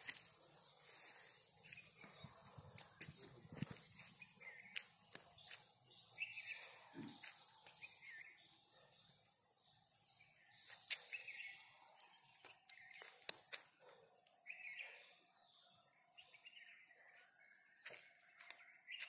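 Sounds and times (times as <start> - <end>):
bird chirps: 0.0 - 19.0.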